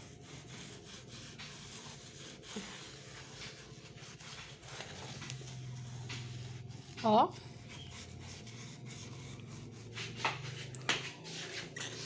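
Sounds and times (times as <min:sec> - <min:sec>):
sponge scrubbing glass: 0:00.0 - 0:12.0.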